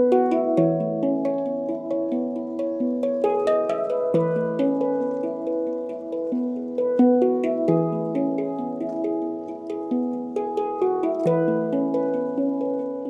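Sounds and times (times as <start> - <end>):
handpan notes ringing: 0.0 - 13.0.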